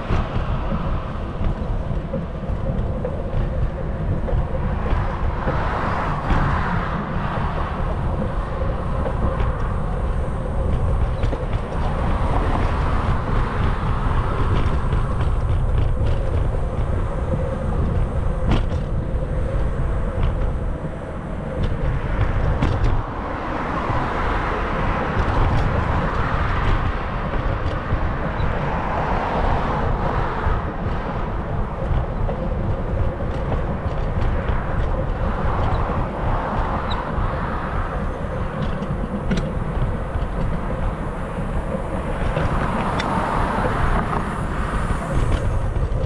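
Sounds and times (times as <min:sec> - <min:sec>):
road noise: 0:00.0 - 0:46.0
wind rushing over microphone: 0:00.0 - 0:46.0.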